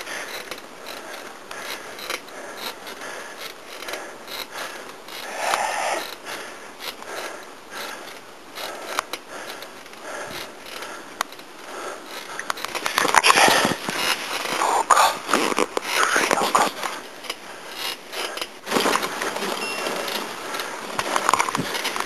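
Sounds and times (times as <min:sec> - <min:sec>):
bicycle clicking and rattling: 0:00.0 - 0:14.6, 0:16.8 - 0:22.0.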